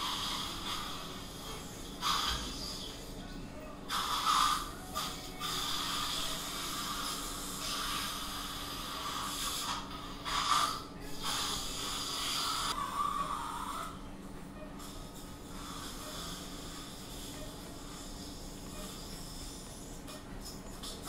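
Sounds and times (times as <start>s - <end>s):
medical equipment hissing: 0.0s - 3.3s, 3.9s - 14.0s, 14.7s - 21.0s
steady low hum: 0.0s - 21.0s.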